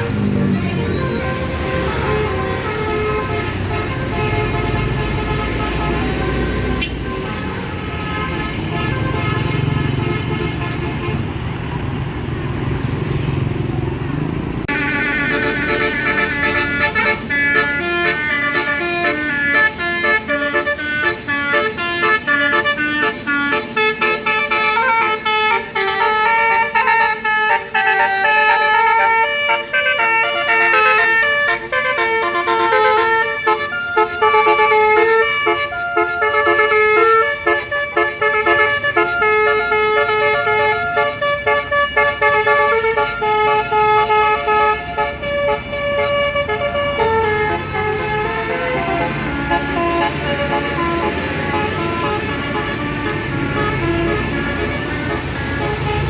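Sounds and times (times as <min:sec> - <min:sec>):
bus horn playing a melody: 0:00.0 - 0:12.0, 0:14.7 - 0:56.0.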